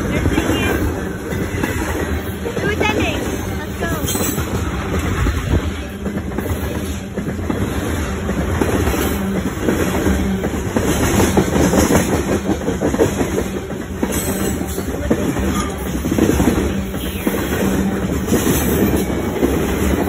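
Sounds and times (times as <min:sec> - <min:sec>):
freight train wagons rolling past: 0:00.0 - 0:20.0.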